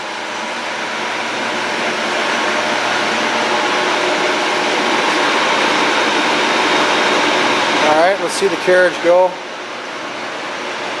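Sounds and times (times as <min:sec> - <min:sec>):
lathe humming and whirring: 0:00.0 - 0:11.0.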